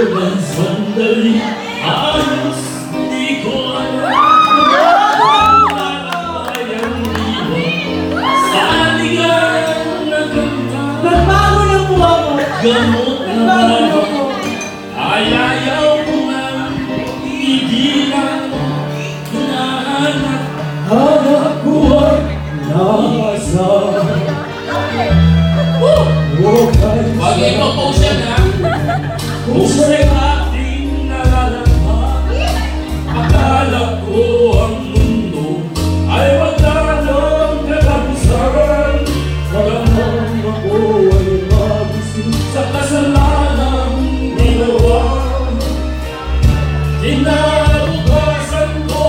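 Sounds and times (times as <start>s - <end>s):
amplified backing music: 0.0s - 49.0s
band accompaniment: 0.0s - 49.0s
man and woman singing duet: 0.0s - 49.0s.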